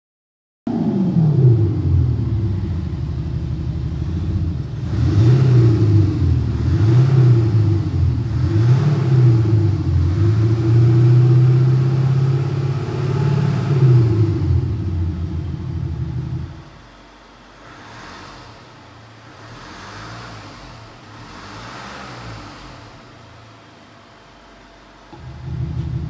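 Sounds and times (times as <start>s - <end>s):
car engine revving: 0.7s - 26.0s.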